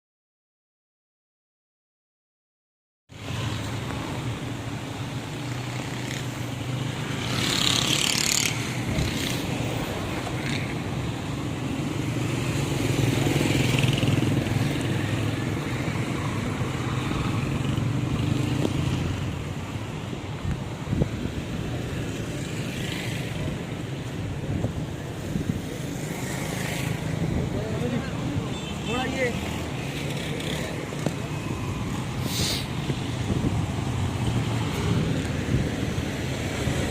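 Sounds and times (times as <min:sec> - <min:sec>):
road noise: 0:03.1 - 0:36.9.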